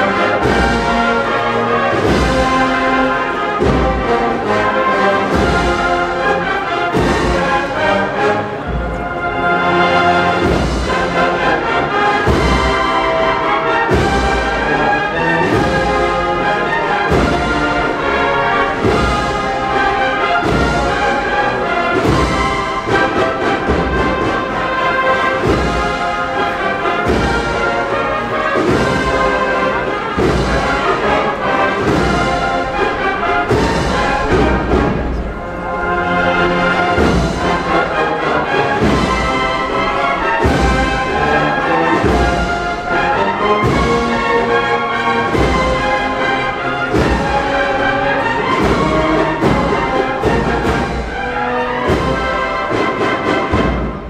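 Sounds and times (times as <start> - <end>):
brass band march: 0.0 - 54.0
steady drum beat: 0.0 - 54.0.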